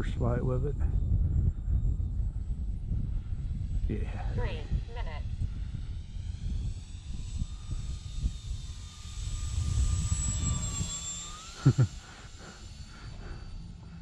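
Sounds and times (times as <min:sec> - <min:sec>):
wind buffeting microphone: 0:00.0 - 0:14.0
model plane motor whining: 0:01.0 - 0:14.0.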